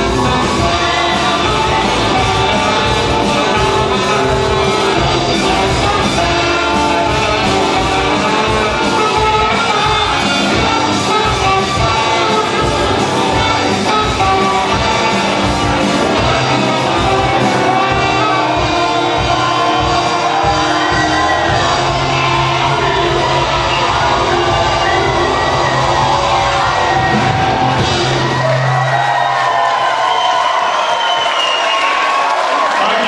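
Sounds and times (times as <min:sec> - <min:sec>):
driving drum beat: 0:00.0 - 0:29.5
live rock band playing: 0:00.0 - 0:30.0.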